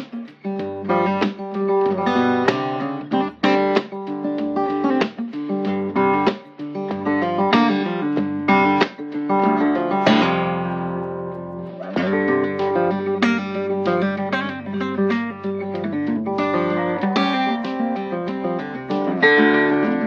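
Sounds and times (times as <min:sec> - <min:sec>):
acoustic guitar picking: 0:00.0 - 0:20.0.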